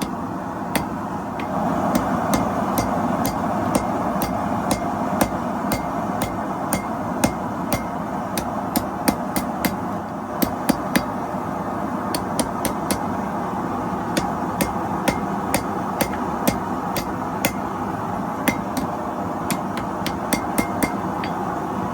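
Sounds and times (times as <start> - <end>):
hammer striking steel on anvil: 0.0 - 11.2, 12.1 - 13.2, 14.1 - 21.5.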